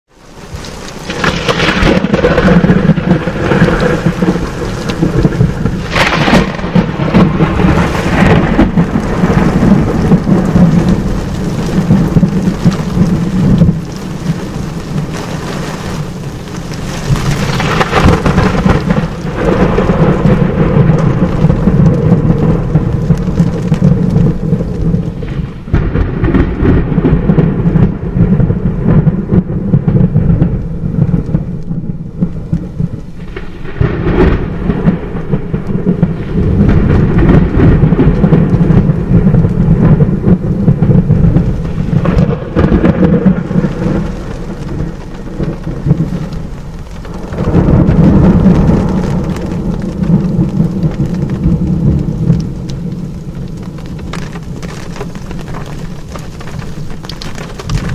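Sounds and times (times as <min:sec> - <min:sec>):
rain falling: 0:00.1 - 0:57.9
thunder rumbling: 0:00.1 - 0:57.9.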